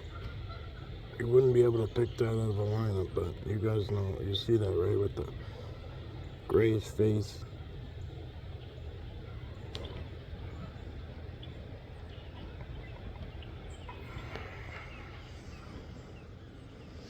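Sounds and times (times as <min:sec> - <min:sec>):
faint background hiss: 0:00.0 - 0:17.0
low outdoor rumble: 0:00.0 - 0:17.0.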